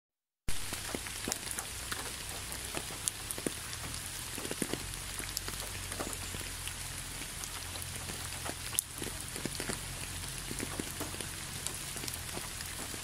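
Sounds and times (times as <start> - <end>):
rain falling on concrete: 0.5 - 13.0.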